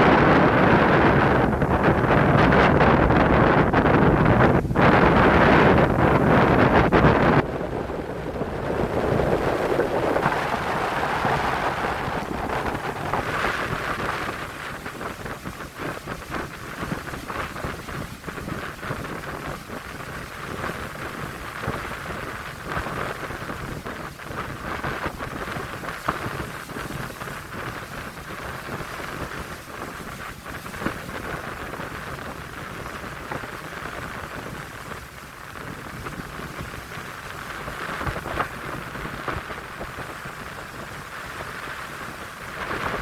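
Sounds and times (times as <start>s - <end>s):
heavy surf: 0.0s - 43.0s
wind buffeting microphone: 0.0s - 43.0s.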